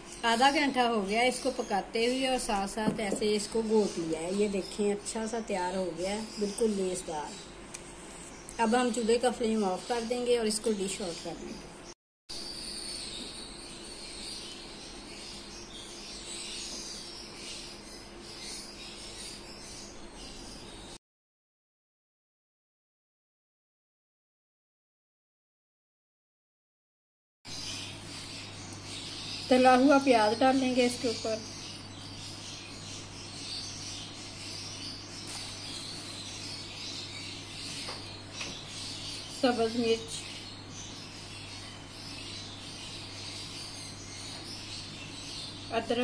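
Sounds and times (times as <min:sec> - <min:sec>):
faint high-pitched chirping: 0:00.0 - 0:21.0, 0:27.5 - 0:46.0.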